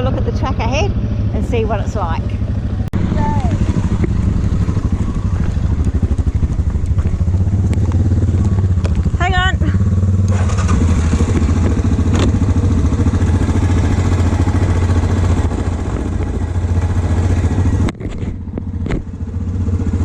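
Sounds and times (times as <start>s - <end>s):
quad bike engine idling: 0.0s - 20.0s.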